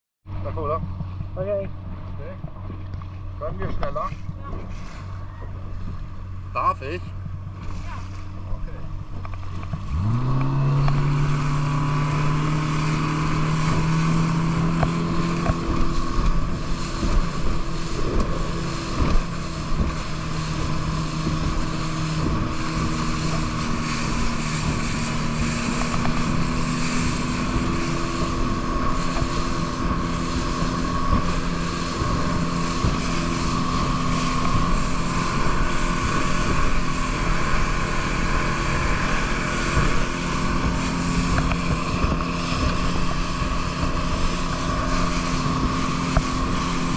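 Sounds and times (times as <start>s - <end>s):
boat motor running: 0.2s - 46.9s
wind buffeting microphone: 7.1s - 46.9s.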